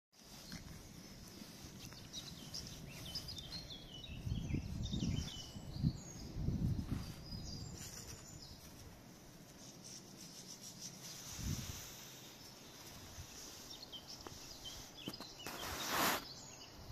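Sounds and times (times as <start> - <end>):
small birds chirping: 0.2 - 16.9.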